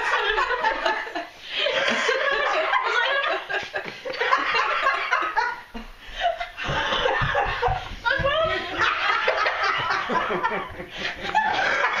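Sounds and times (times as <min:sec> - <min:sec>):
women laughing: 0:00.0 - 0:12.0.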